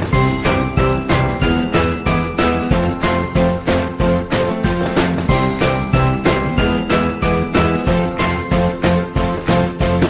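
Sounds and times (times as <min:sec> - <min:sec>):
music with steady beat: 0:00.0 - 0:10.0
high pitched melody: 0:00.2 - 0:09.4.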